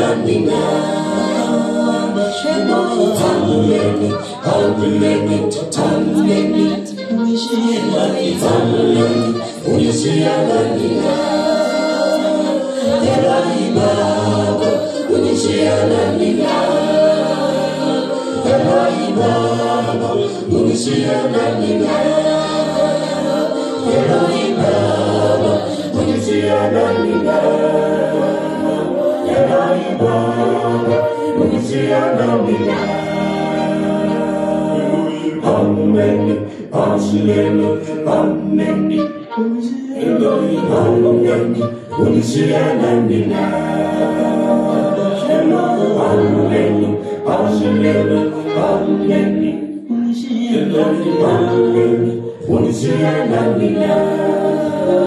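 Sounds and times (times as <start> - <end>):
choir singing a cappella hymn: 0.0 - 55.0.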